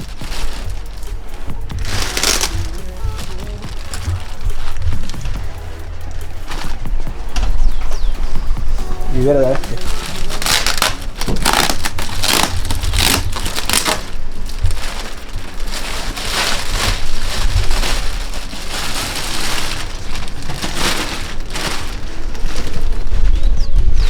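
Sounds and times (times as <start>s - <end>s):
packing material tearing and crumpling: 0.0s - 23.5s.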